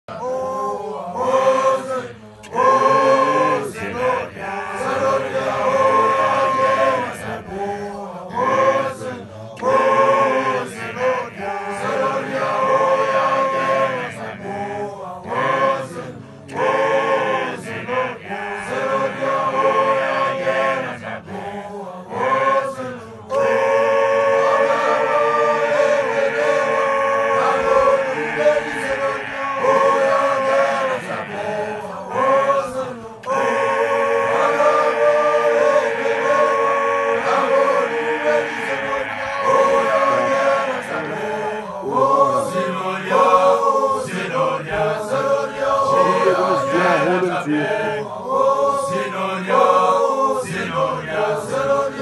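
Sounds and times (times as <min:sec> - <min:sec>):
group chanting a song: 0:00.0 - 0:52.0.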